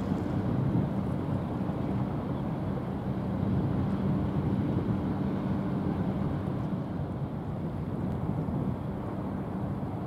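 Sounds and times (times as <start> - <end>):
ship diesel engine drone: 0.0 - 10.0
wind and water hiss: 0.0 - 10.0.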